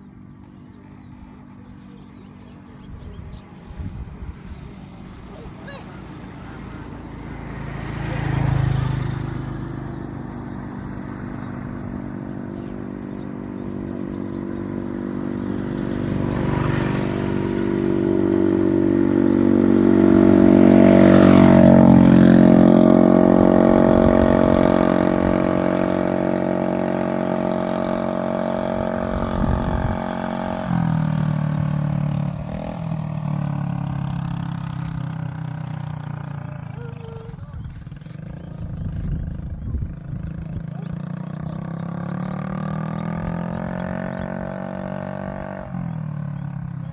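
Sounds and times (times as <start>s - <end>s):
vehicle engine passing by: 0.0s - 46.9s.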